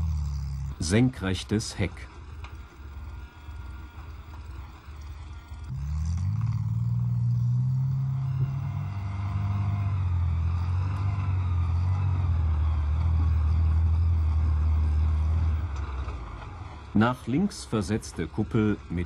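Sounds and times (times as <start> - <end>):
tracked vehicle engine running: 0.0 - 19.0.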